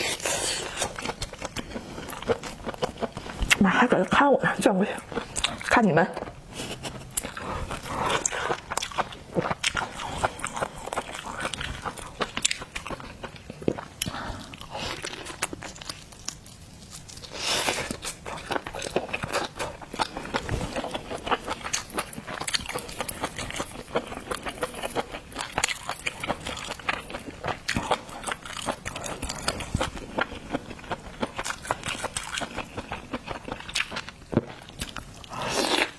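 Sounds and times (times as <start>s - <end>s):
chewing and crunching shellfish: 0.0s - 35.9s.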